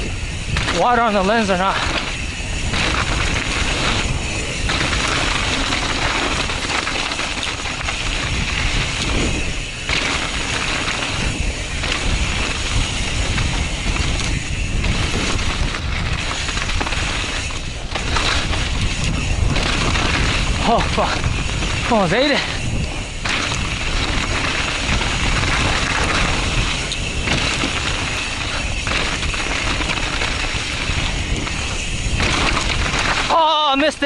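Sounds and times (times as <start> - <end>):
bike tyre and rattle: 0.0 - 34.0
wind rush on microphone: 0.0 - 34.0.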